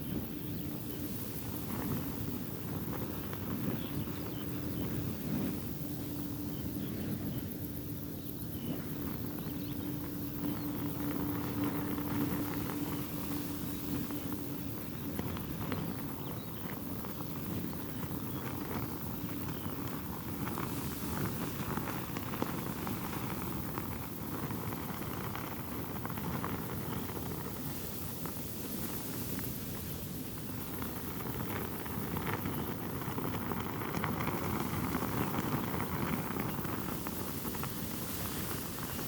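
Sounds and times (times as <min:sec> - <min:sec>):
silk veil flapping in wind: 0:00.0 - 0:39.0
steady low hum: 0:00.0 - 0:39.0
wind rumble on microphone: 0:00.0 - 0:39.0.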